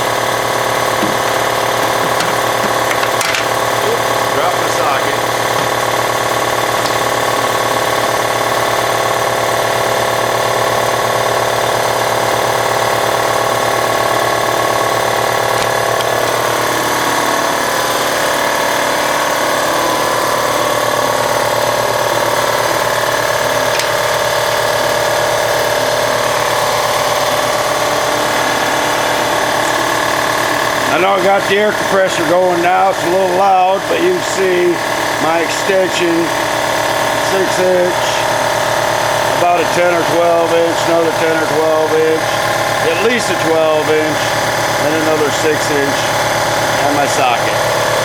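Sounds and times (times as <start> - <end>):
air compressor running: 0.0 - 48.0.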